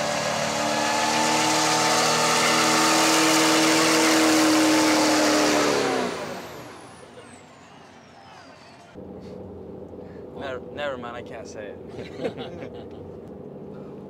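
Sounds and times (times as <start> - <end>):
loud vehicle drone: 0.0 - 14.0.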